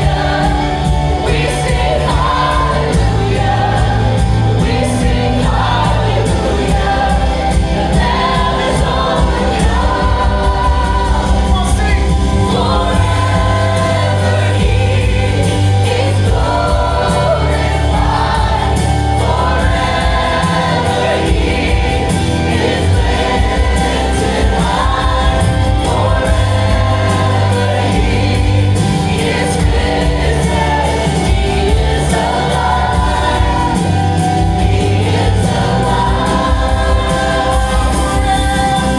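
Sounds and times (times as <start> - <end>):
bass accompaniment: 0.0 - 38.9
choir singing: 0.0 - 38.9.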